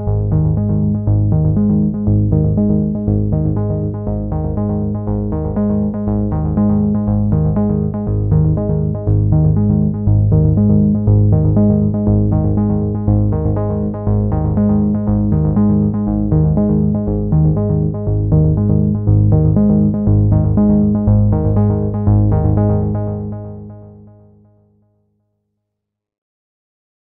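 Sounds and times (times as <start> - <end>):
instrumental background music: 0.0 - 24.7.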